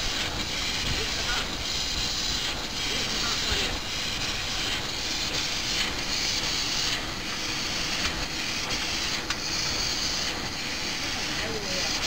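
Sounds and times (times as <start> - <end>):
filling machine mechanical din: 0.0 - 12.0.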